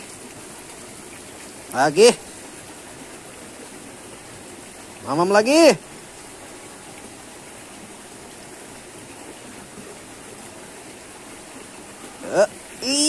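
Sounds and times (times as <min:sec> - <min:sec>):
stream running over stones: 0:00.0 - 0:13.0.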